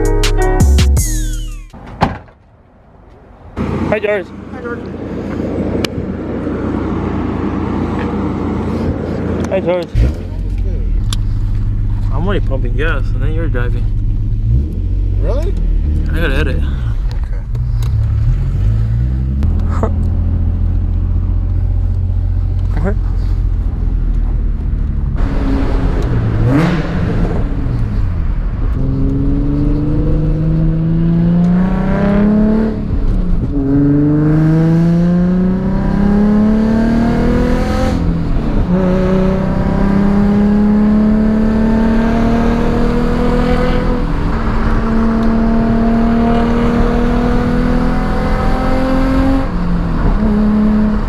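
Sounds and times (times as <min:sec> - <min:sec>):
car engine accelerating through gears: 0:05.1 - 0:51.0.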